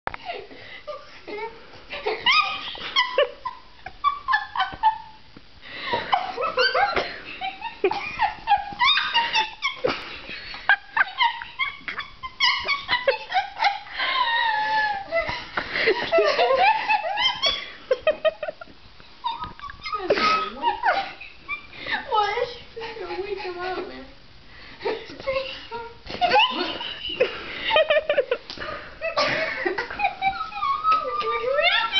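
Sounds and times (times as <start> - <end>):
women laughing and squealing: 0.2 - 5.2, 5.9 - 24.0, 24.8 - 31.9.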